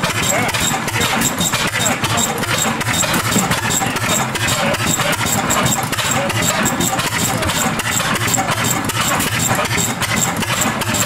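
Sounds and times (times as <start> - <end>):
old gas engines chugging: 0.0 - 11.0.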